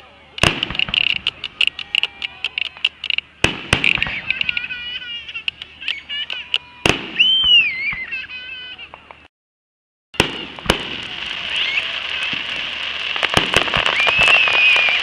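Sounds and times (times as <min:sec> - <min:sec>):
fireworks crackling pops: 0:00.3 - 0:09.3, 0:10.2 - 0:15.0
fireworks bangs: 0:00.4 - 0:08.2, 0:10.2 - 0:15.0
fireworks whistling: 0:00.4 - 0:09.0, 0:10.2 - 0:15.0.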